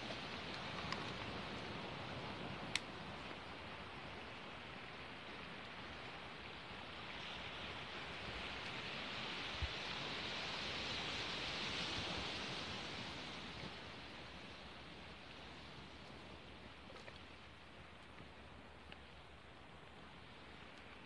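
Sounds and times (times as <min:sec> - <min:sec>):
surf on pebble beach: 0:00.0 - 0:17.4.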